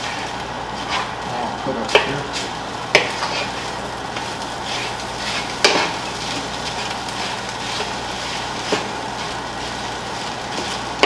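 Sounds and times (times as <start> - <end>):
rice sizzling in frying pan: 0.0 - 11.0.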